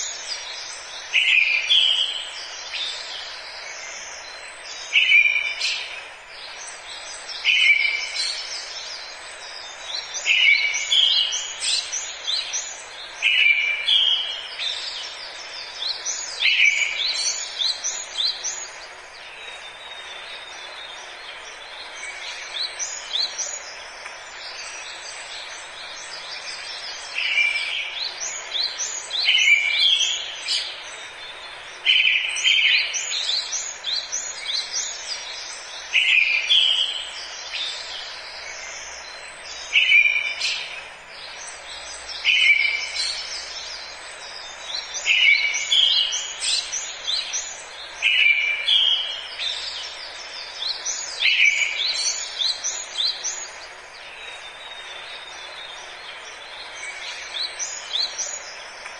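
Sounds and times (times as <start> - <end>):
background hiss: 0.0 - 58.9.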